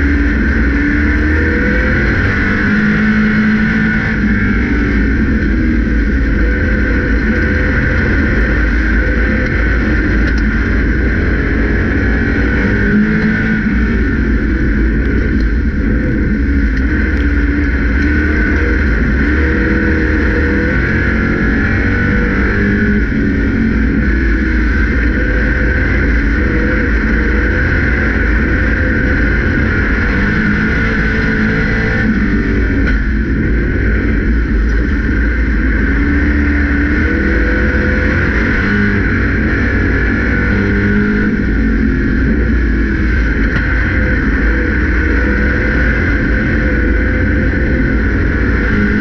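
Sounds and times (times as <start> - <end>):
race car engine rumbling: 0.0 - 49.0.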